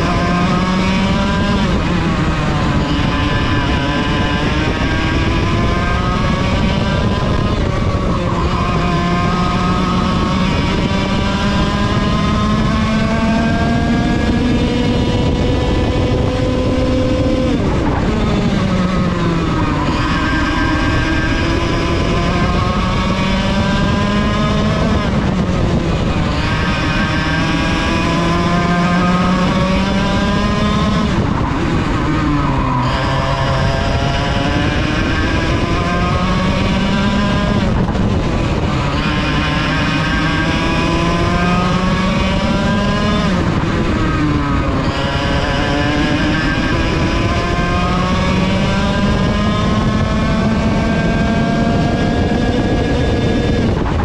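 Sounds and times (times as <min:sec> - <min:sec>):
kart two-stroke engine revving: 0:00.0 - 0:54.0.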